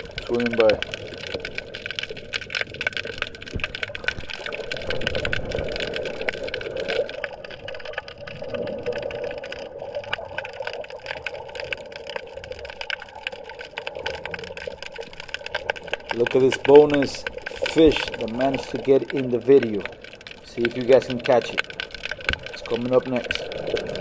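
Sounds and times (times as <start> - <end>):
crackling clicks: 0.0 - 24.0
muffled underwater water rush: 0.0 - 24.0.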